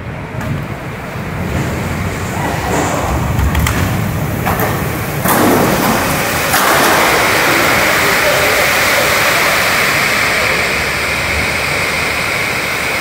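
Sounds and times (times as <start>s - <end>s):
wind buffeting microphone: 0.5s - 12.5s
heavy rain: 1.1s - 13.0s.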